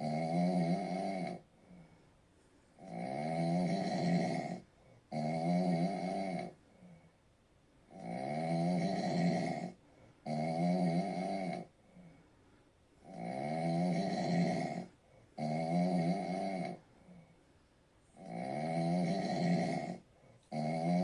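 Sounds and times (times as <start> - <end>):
dog snoring: 0.0 - 2.0, 2.8 - 7.1, 7.9 - 12.2, 13.0 - 17.4, 18.1 - 21.0.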